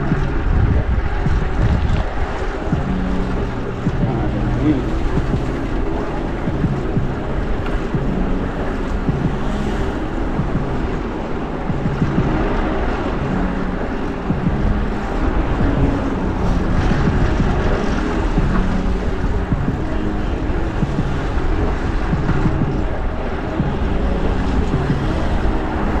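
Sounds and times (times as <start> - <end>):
passing traffic engine hum: 0.0 - 26.0
wind rushing over microphone: 0.0 - 26.0.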